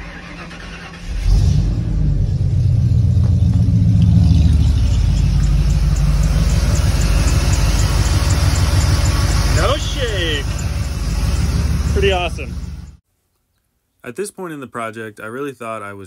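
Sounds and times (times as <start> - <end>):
engine starting and running: 0.0 - 13.0.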